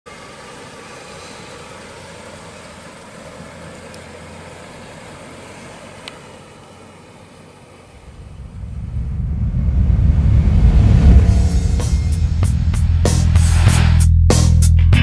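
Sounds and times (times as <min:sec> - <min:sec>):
car engine running at low speed: 0:00.1 - 0:13.9.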